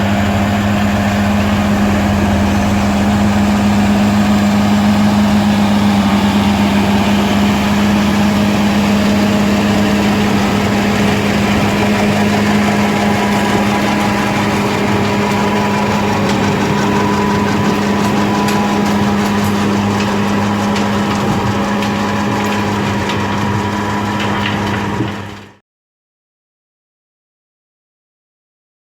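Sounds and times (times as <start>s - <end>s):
tractor diesel engine drone: 0.0s - 25.6s.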